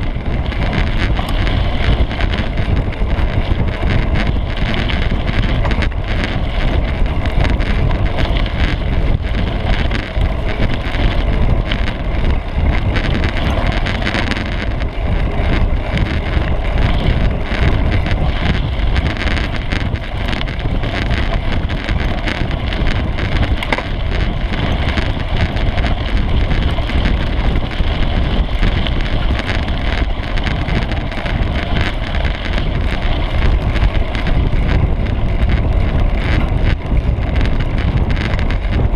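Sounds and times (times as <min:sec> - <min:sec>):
bike frame rattling: 0:00.0 - 0:38.9
tyres rumbling on dirt: 0:00.0 - 0:38.9
wind rush on microphone: 0:00.0 - 0:38.9.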